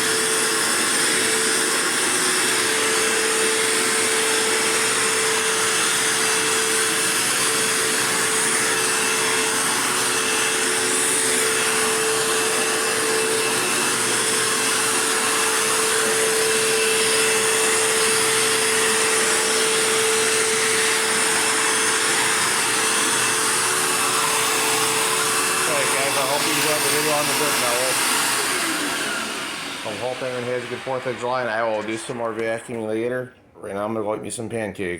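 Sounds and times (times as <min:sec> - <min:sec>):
vacuum cleaner running: 0:00.0 - 0:33.4.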